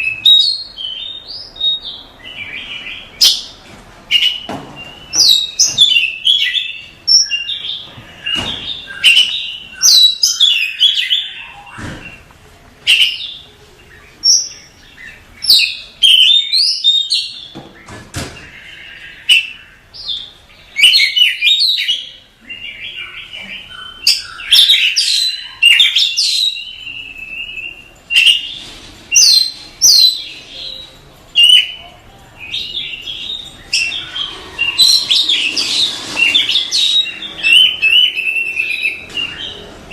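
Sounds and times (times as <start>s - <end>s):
bird singing whistles and chatter: 4.1s - 12.3s, 12.9s - 31.8s, 32.4s - 39.9s.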